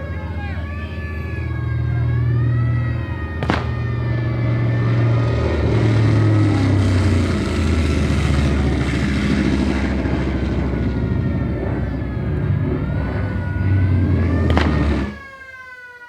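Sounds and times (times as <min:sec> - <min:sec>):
faint air-raid siren wailing: 0:00.0 - 0:16.0
propeller aircraft engine drone: 0:00.0 - 0:16.0.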